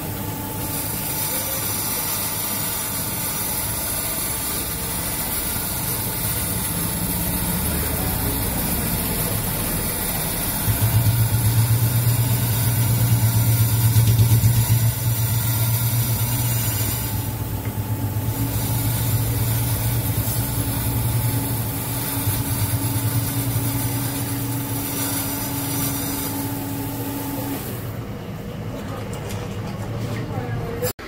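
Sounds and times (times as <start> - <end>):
grinding machine hum with hiss: 0.0 - 31.0.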